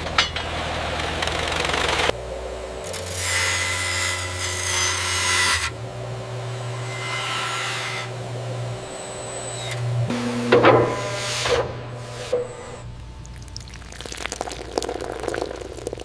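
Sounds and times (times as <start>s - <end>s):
machinery humming and hissing: 0.0s - 16.0s.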